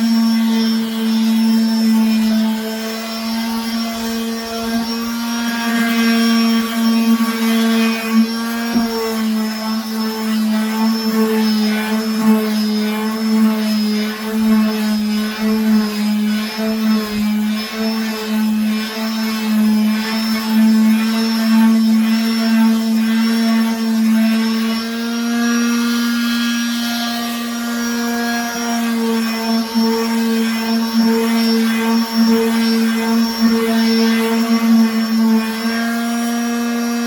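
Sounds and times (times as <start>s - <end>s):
electric sander on wood: 0.0s - 37.0s.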